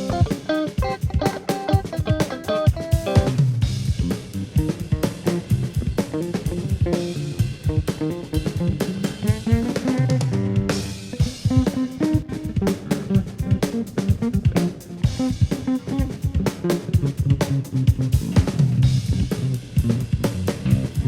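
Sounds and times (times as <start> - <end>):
drum kit steady beat: 0.0 - 21.0
electric bass: 0.0 - 21.0
electric guitar: 0.0 - 21.0.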